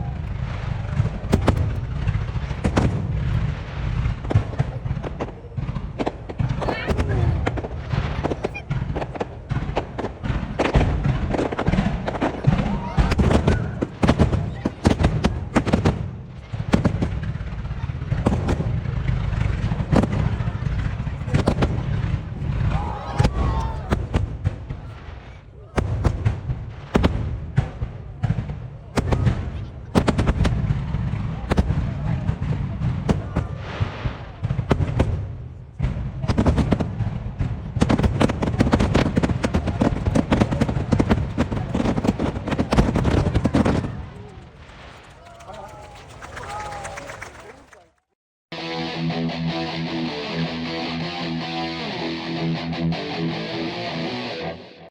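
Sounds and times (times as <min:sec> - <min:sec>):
fireworks sharp bangs: 0:00.0 - 0:46.2.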